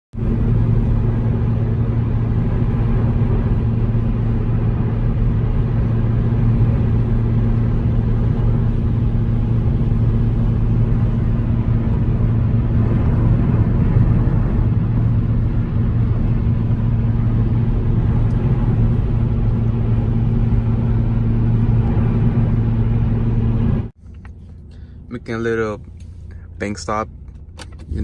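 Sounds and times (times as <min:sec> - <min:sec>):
deep exhaust drone: 0:00.2 - 0:28.0.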